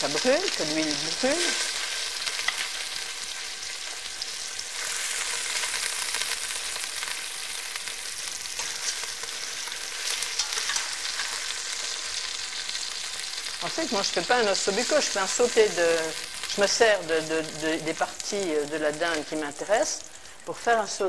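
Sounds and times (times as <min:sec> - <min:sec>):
oil sizzling and crackling in pot: 0:00.0 - 0:21.0.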